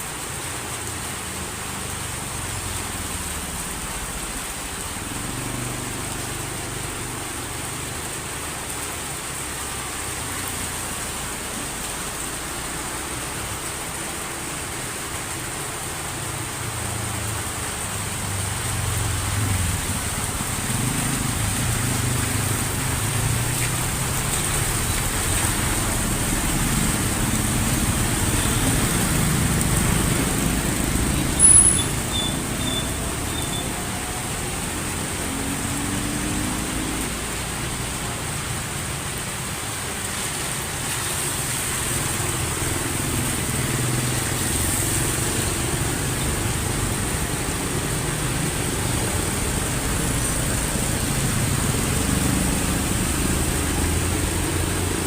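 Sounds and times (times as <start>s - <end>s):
heavy rain falling: 0.0s - 55.0s
low rumble of road traffic: 0.0s - 55.0s.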